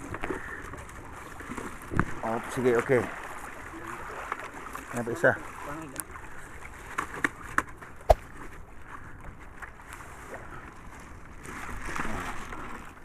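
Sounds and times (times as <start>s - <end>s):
water washing against boat: 0.0s - 13.0s
wind: 0.0s - 13.0s.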